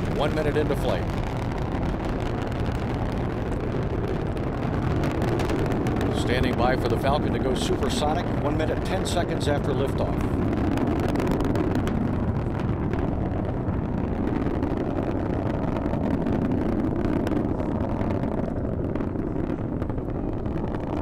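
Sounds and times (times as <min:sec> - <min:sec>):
rocket engine rumble crackling: 0:00.0 - 0:21.0.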